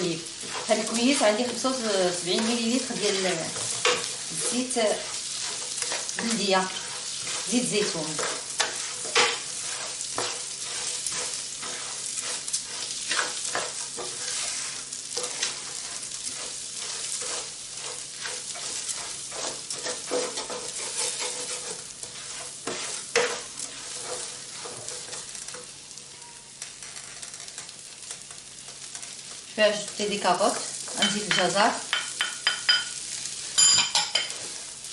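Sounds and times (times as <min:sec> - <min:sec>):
food sizzling in a pan: 0:00.0 - 0:34.9.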